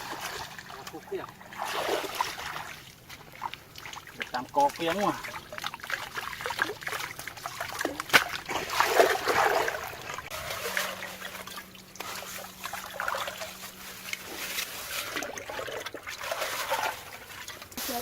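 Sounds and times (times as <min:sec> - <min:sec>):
faint steady hum: 0:00.0 - 0:18.0
water splashing and trickling: 0:00.0 - 0:18.0.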